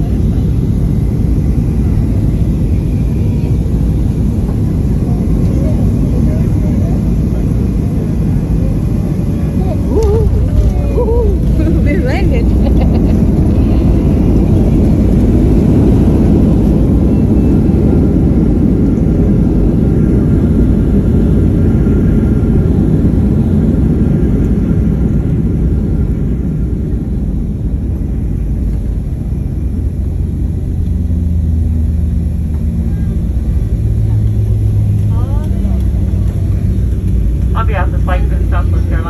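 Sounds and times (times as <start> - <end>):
jet engines and wheels rumbling: 0.0 - 39.0
low steady engine tones: 0.0 - 39.0.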